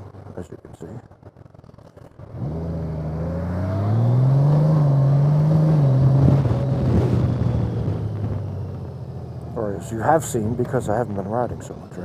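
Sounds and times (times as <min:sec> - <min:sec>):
motorcycle engine accelerating: 0:00.0 - 0:12.0
road and wind noise: 0:00.0 - 0:12.0.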